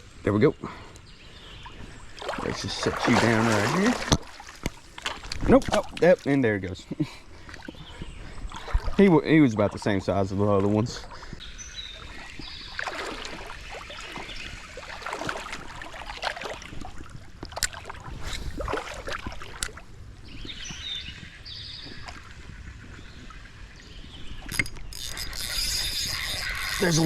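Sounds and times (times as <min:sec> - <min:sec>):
creek water splashing: 0:00.8 - 0:27.0.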